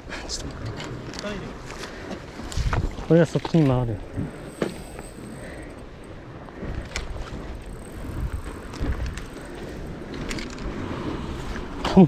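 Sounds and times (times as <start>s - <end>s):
wind on microphone: 0.4s - 3.1s, 4.0s - 12.0s.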